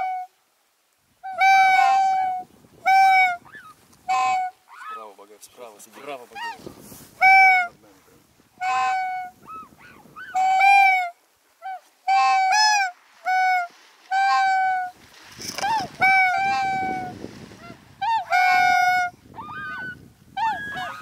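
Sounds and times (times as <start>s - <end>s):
swans honking: 1.2s - 7.8s, 8.5s - 21.0s.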